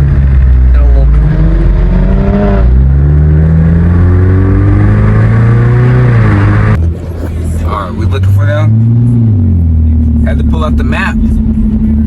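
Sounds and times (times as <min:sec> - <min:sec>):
sports car accelerating hard: 0:00.0 - 0:12.0.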